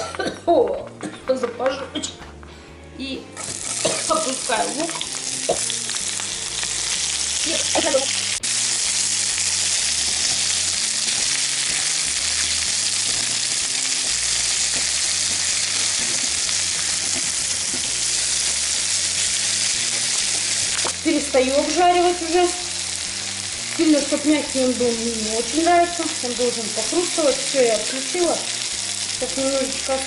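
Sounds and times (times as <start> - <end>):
onion sizzling in hot oil: 3.4 - 30.0.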